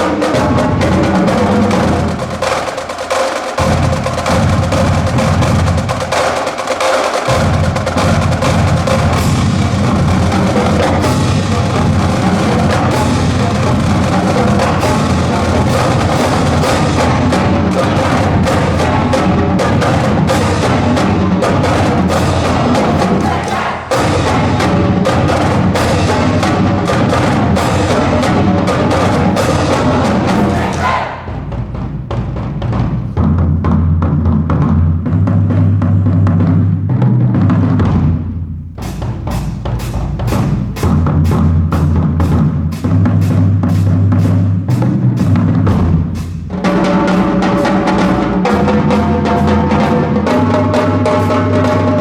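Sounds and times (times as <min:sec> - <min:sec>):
drumline playing a cadence: 0:00.0 - 0:52.0.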